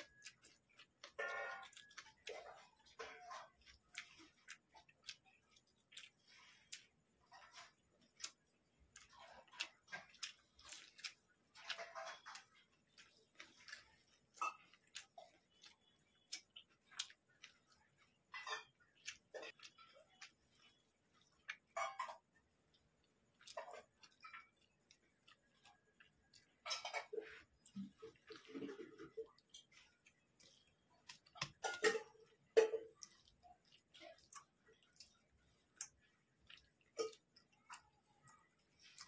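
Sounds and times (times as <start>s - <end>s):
fingers squishing rice: 0.0s - 39.0s.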